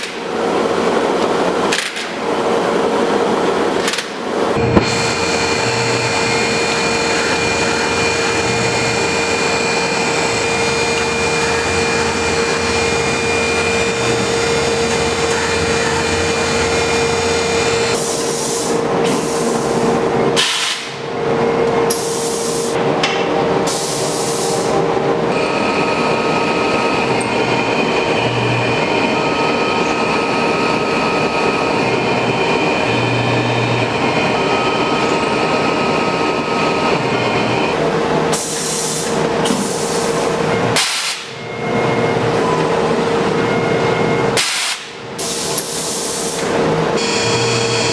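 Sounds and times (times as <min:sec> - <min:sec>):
mill machine whine: 0:00.0 - 0:47.9.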